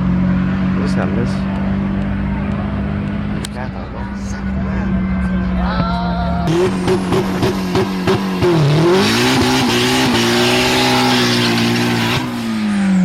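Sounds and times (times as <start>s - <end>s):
car engine revving: 0.0s - 5.8s, 6.4s - 13.0s.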